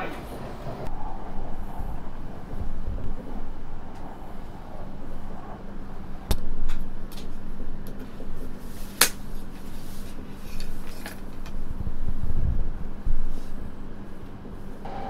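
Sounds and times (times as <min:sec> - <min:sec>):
train rumble and hum: 0:00.0 - 0:15.0.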